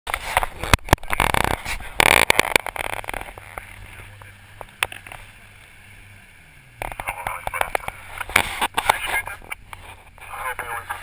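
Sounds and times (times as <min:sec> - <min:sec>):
low engine hum: 0:00.1 - 0:11.0.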